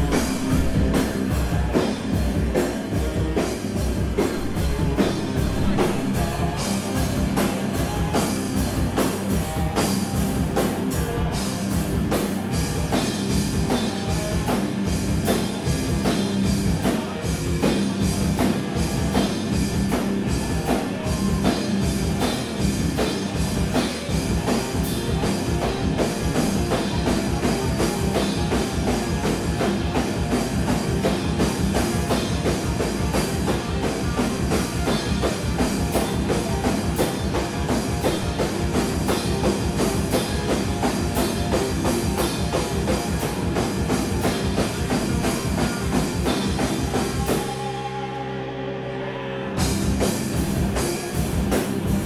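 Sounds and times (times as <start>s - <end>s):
drum kit: 0.0s - 48.2s, 49.5s - 52.0s
electric guitar: 0.0s - 52.0s.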